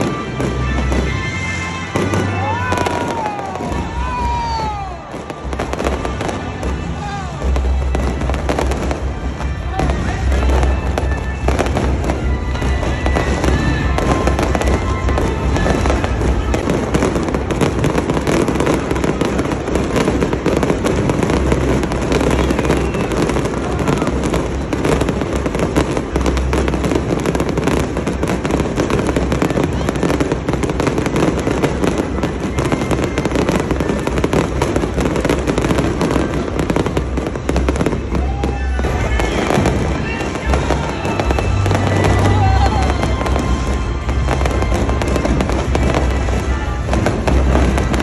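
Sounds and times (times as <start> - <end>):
fireworks crackling and banging: 0.0 - 48.0
fireworks whistling: 0.0 - 48.0
music playing: 0.0 - 48.0.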